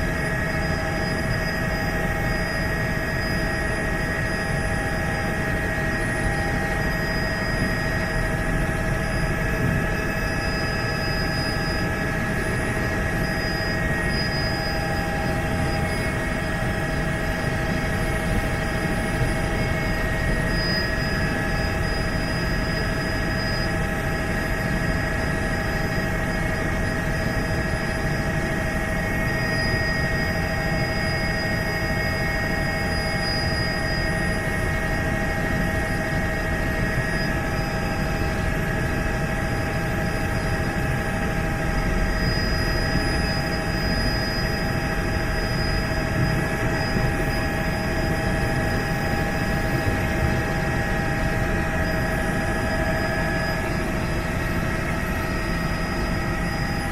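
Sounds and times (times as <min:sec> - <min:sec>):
helicopter rotor and engine: 0:00.0 - 0:56.9
steady whining tones: 0:00.0 - 0:56.9.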